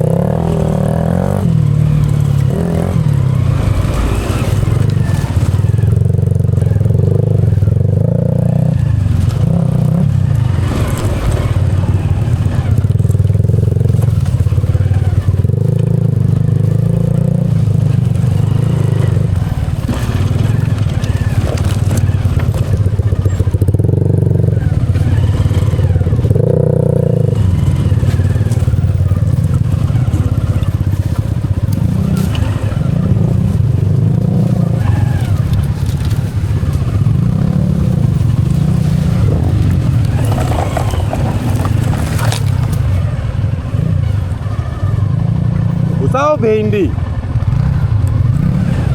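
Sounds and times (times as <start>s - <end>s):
tyres crunching on loose rock: 0.0s - 44.4s
motorcycle engine revving: 0.0s - 48.9s.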